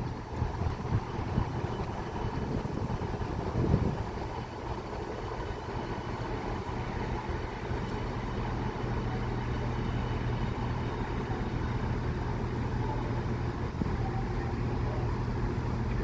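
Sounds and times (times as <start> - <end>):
diesel train engine idling: 0.0 - 16.0.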